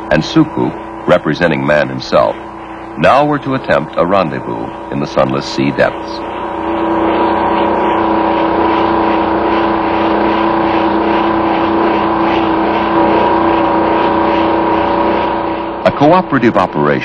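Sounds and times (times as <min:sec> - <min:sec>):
submersible motor drone: 0:00.0 - 0:17.0.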